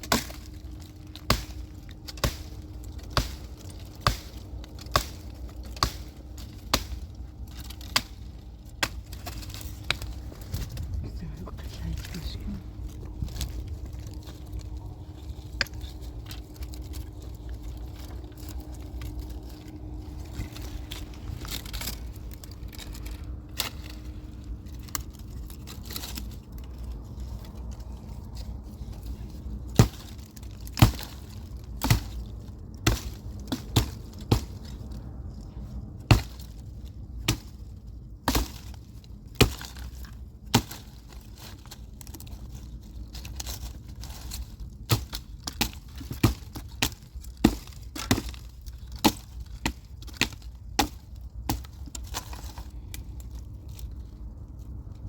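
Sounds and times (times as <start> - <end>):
firewood cracking and knocking: 0.0 - 55.0
low steady background noise: 0.0 - 55.0.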